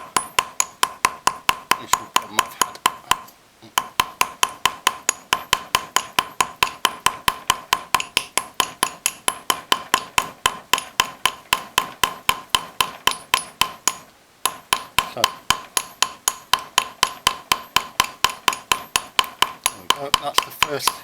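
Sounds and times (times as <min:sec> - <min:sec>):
light hammer taps on metal: 0:00.0 - 0:21.0.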